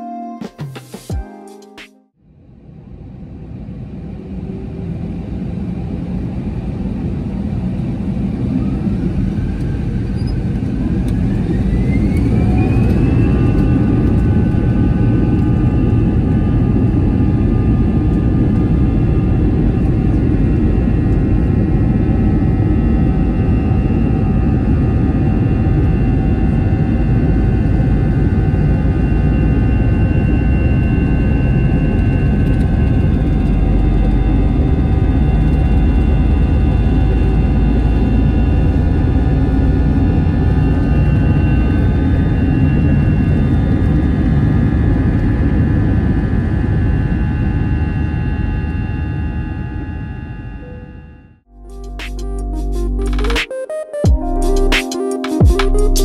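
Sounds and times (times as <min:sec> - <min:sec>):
jet engines spooling up: 0:02.7 - 0:50.6.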